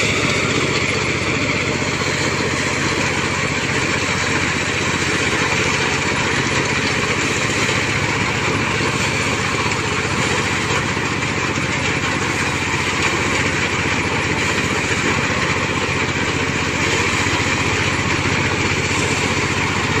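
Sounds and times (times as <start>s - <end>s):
combine harvester engine running: 0.0s - 20.0s.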